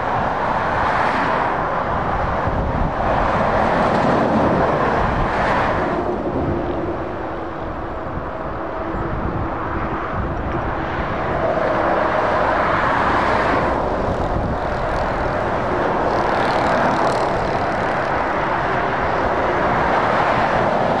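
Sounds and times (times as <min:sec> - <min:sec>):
motorway traffic passing: 0:00.0 - 0:21.0.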